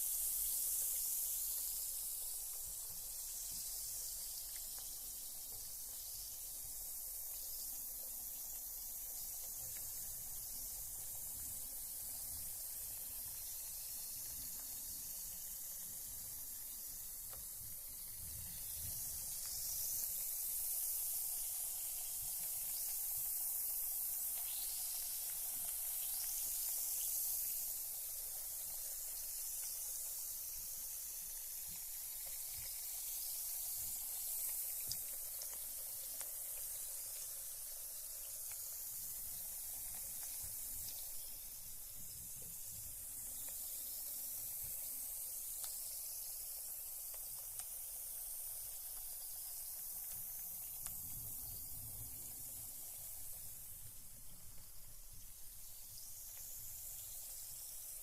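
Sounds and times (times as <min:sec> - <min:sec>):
bath bomb fizzing: 0:00.0 - 0:58.0.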